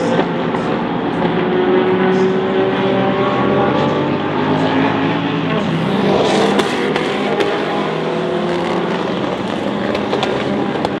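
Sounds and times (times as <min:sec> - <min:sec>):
race car engines at speed: 0:00.0 - 0:11.0.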